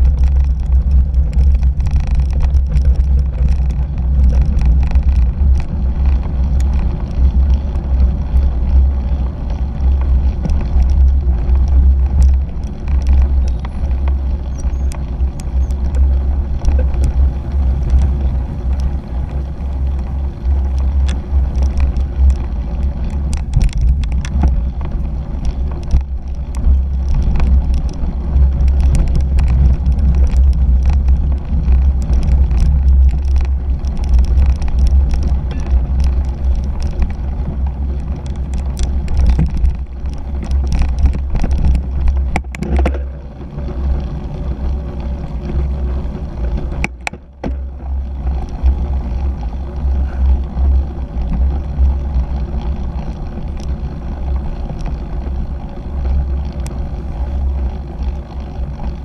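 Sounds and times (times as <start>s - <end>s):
bike clicks and rattles: 0.0s - 59.0s
wind rumble on camera: 0.0s - 59.0s.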